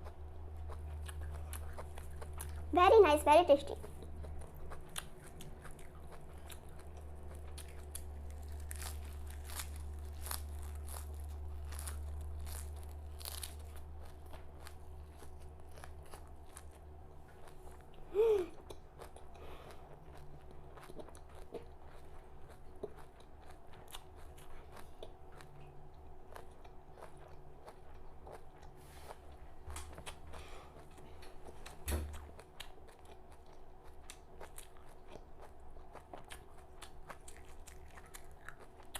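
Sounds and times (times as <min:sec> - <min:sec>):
chewing crisp leaves: 0:00.0 - 0:38.9.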